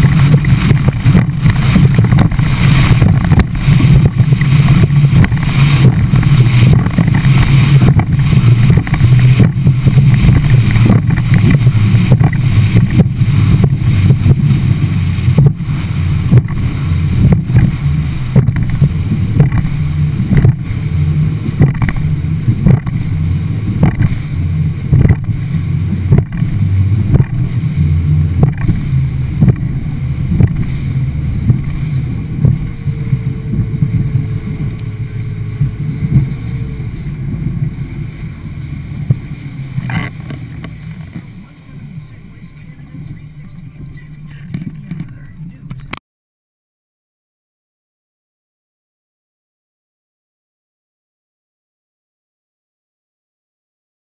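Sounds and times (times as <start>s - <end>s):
boat running rumble: 0.0s - 46.0s
hull slapping water: 0.0s - 46.0s.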